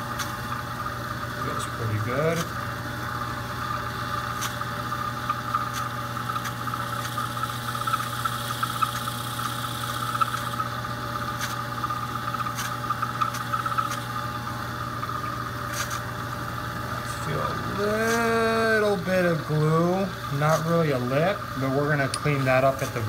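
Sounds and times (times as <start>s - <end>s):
lathe humming and whining: 0.0s - 23.0s.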